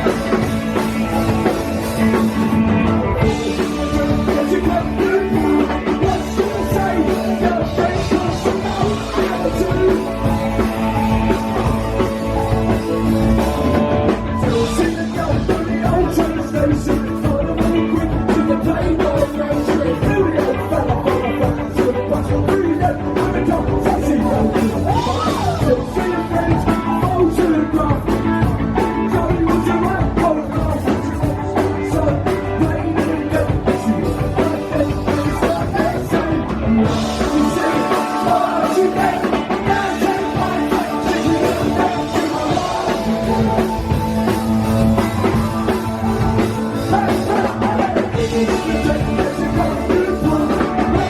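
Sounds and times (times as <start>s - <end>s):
live rock band playing: 0.0s - 51.0s
person singing: 3.1s - 51.0s.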